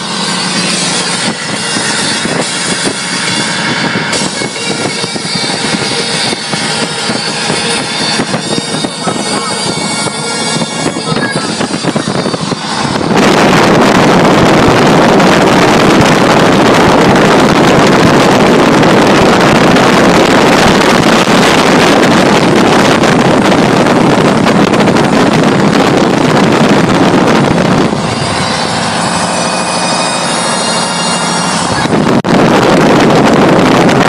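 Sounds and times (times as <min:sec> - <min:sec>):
road noise: 0:00.0 - 0:34.0
wind buffeting microphone: 0:00.0 - 0:34.0.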